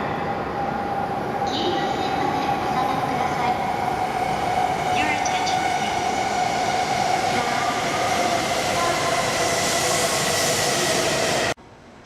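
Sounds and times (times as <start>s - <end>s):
train rushing noise: 0.0s - 11.6s.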